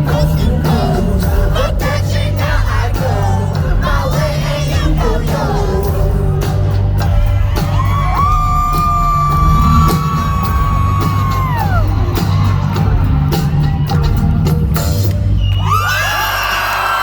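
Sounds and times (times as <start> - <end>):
crowd screaming and cheering: 0.0 - 17.0
loud concert music with heavy bass: 0.0 - 17.0.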